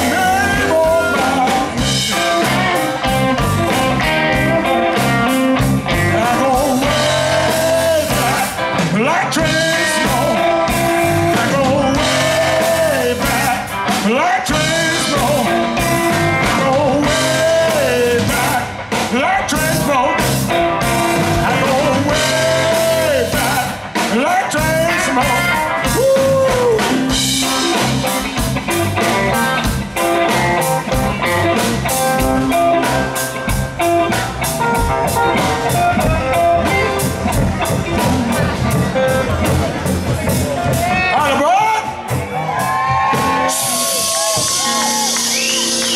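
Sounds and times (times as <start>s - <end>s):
blues band playing: 0.0s - 45.9s
electric guitar lead with bent notes: 0.0s - 45.9s.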